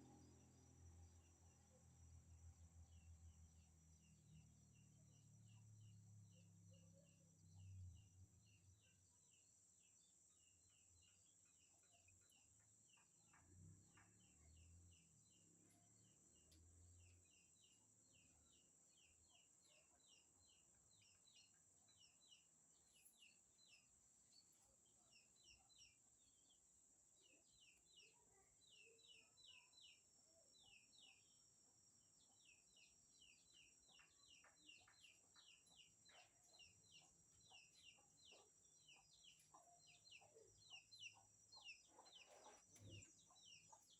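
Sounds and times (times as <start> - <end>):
faint bird chirping: 0.0 - 43.9.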